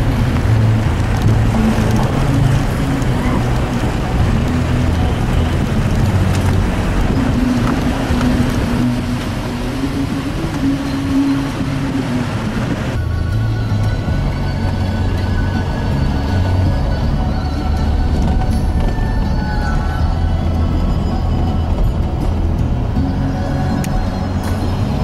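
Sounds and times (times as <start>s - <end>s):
car engine drone: 0.0s - 25.0s
road and wind noise: 0.0s - 25.0s.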